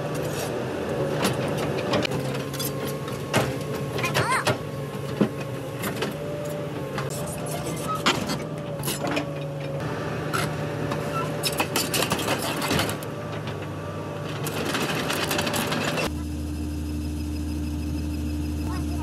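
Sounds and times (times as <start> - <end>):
excavator tracks clanking: 0.0 - 16.1
constant whine: 0.0 - 19.0
engine hum: 0.0 - 19.0.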